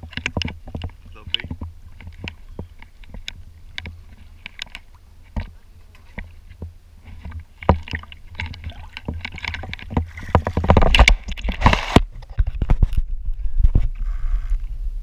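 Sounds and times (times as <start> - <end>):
shallow water splashing: 0.0 - 13.1.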